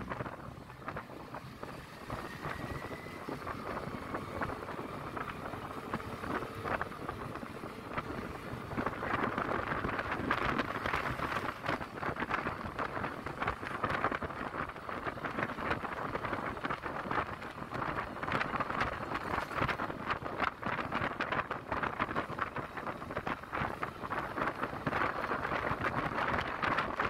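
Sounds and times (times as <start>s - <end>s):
road noise: 0.0s - 27.0s
wind buffeting microphone: 0.0s - 27.0s.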